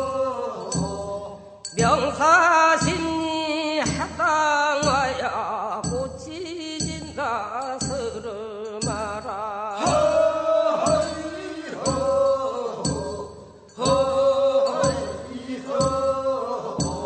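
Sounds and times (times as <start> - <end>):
funeral chant singing: 0.0 - 5.9, 8.9 - 17.0.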